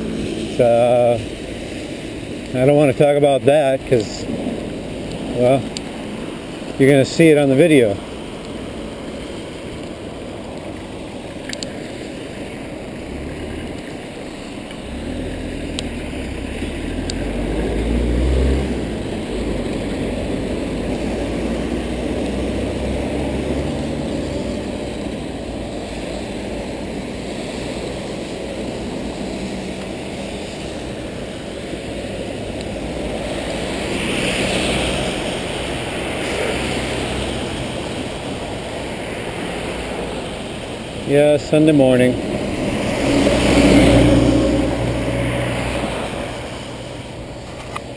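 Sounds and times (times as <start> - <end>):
traffic on wet road: 0.0 - 47.9.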